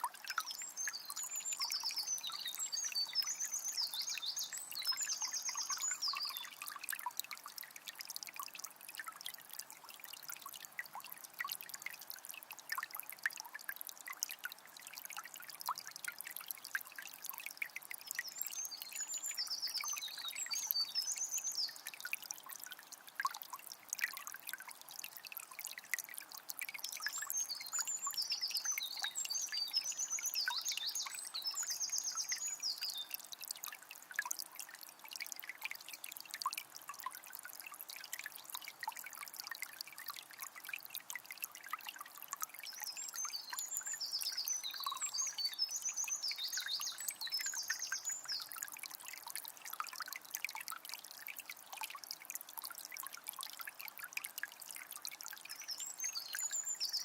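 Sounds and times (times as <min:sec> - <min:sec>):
spring water trickling: 0:00.0 - 0:57.0.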